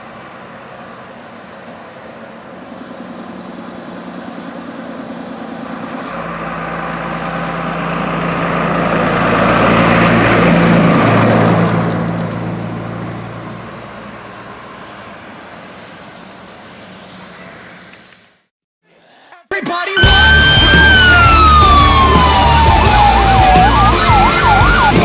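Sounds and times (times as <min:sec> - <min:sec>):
fire engine driving past: 0:00.0 - 0:18.5, 0:20.0 - 0:25.0.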